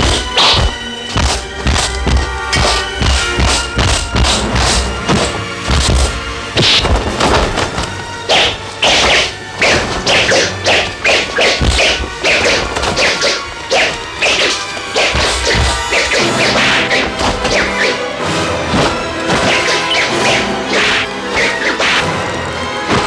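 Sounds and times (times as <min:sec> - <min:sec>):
punch and block whacks: 0:00.0 - 0:07.4, 0:08.3 - 0:18.0, 0:18.8 - 0:22.1
background music: 0:00.0 - 0:23.0.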